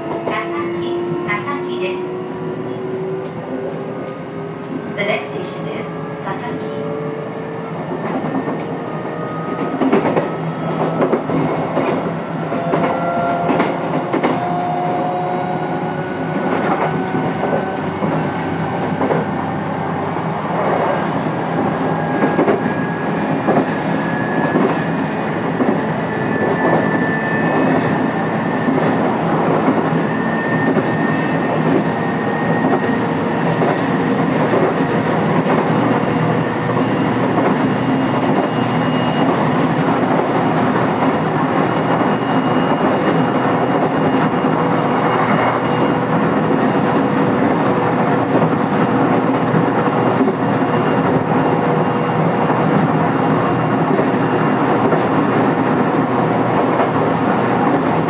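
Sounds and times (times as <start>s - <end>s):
train rumble: 0.0s - 58.0s
wheels clacking on rails: 7.8s - 58.0s.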